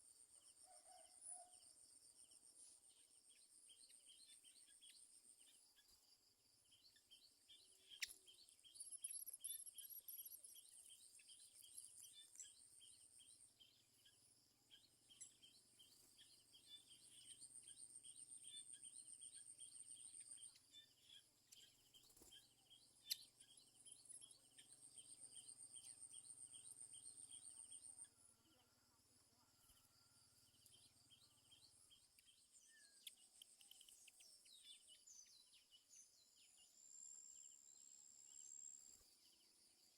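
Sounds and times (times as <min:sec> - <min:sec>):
insects chirping: 0:02.9 - 0:39.9.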